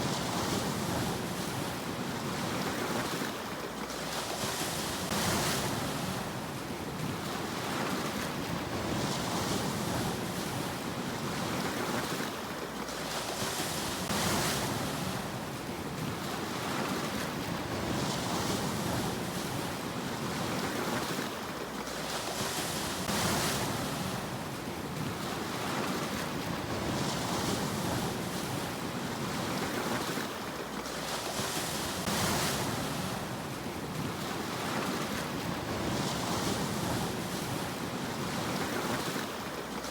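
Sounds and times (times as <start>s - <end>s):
background rush of surf: 0.0s - 39.9s
sea waves washing: 0.0s - 39.9s.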